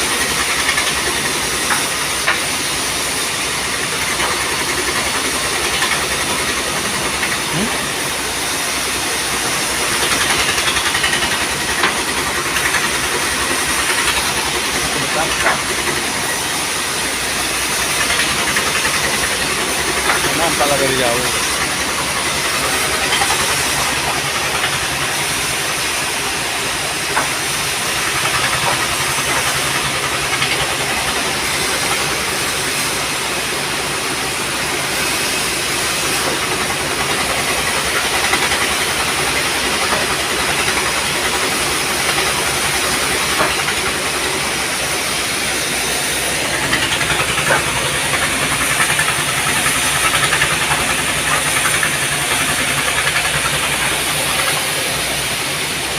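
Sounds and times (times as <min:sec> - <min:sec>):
sawmill machinery drone: 0:00.0 - 0:55.9.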